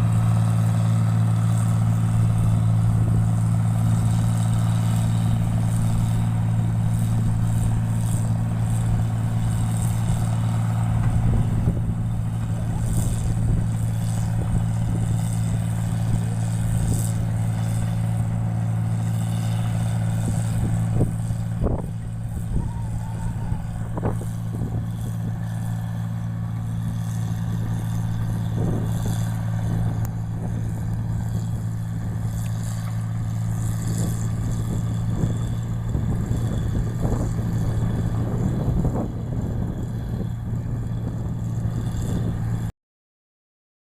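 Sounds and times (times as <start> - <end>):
machine engine humming: 0.0 - 42.7.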